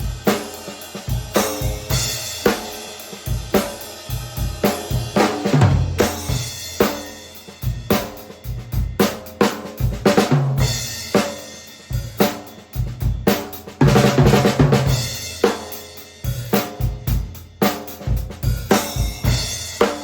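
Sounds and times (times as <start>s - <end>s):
drum kit groove: 0.0s - 20.0s.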